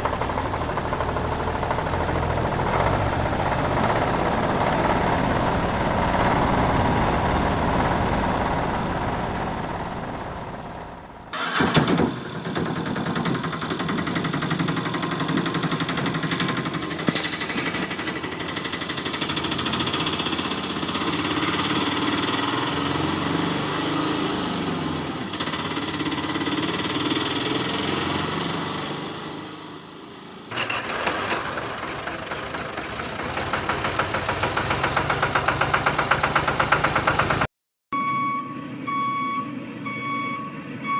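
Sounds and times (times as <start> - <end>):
vehicle engine running: 0.0 - 37.5.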